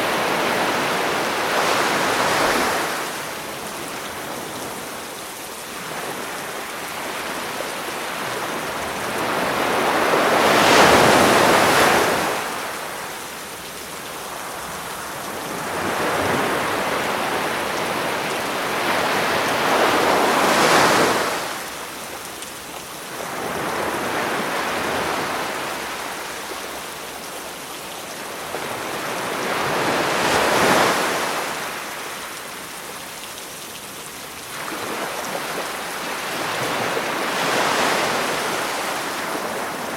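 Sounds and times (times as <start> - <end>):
sea waves breaking on shore: 0.0 - 13.4, 14.3 - 22.4, 23.0 - 27.5, 28.1 - 39.9
rain hiss: 0.0 - 39.9.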